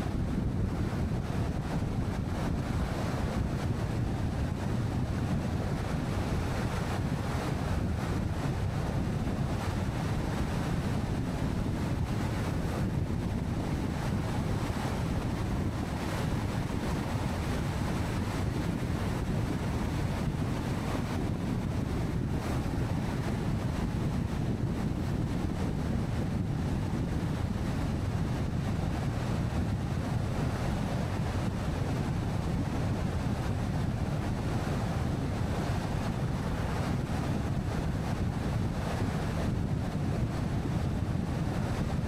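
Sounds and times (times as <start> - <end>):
car wind and tyre noise: 0.0 - 42.0.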